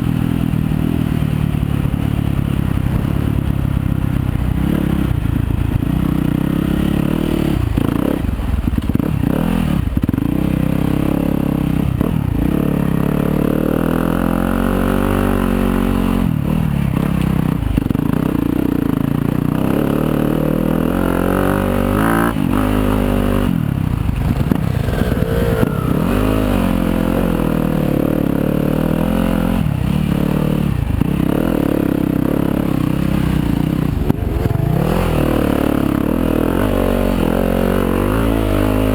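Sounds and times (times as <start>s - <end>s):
dirt bike engine revving: 4.5s - 17.2s, 17.8s - 38.9s.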